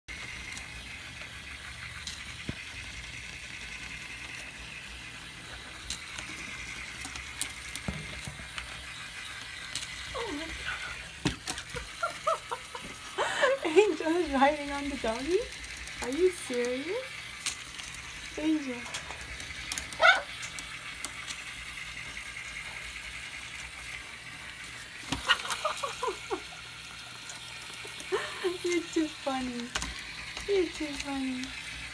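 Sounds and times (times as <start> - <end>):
toy motor whirring and rattling: 0.1 - 31.9.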